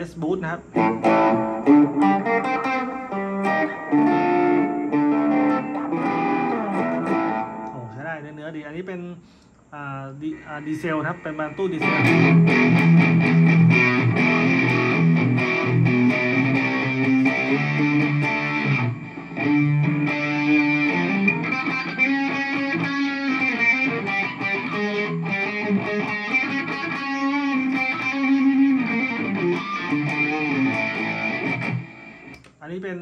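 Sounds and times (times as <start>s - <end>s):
distorted electric guitar riff: 0.0s - 8.6s, 10.6s - 32.5s.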